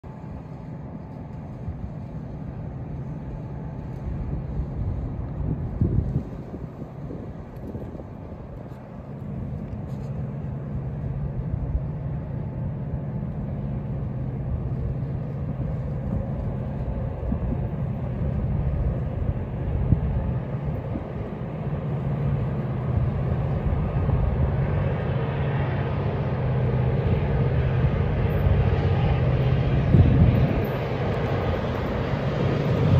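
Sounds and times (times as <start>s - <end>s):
diesel locomotive engine droning: 0.0s - 32.9s.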